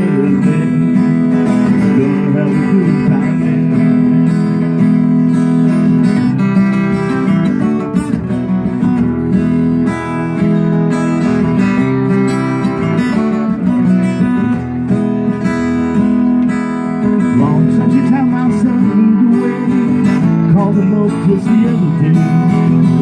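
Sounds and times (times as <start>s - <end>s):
acoustic guitars strumming chords: 0.0s - 23.0s.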